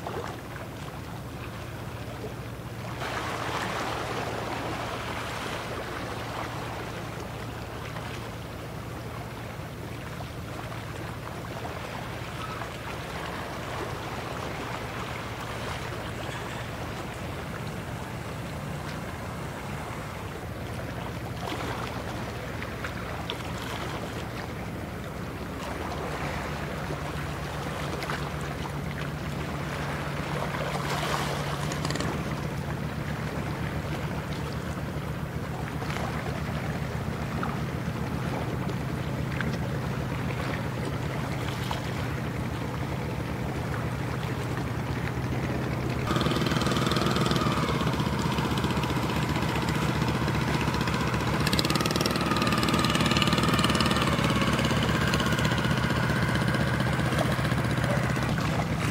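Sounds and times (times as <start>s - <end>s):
ship diesel engines droning: 0.9s - 58.9s
water wash: 2.9s - 58.9s.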